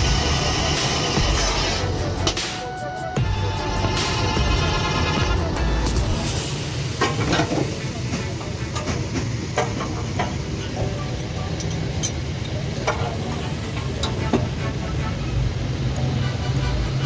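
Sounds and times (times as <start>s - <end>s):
low workshop rumble: 0.0s - 17.0s.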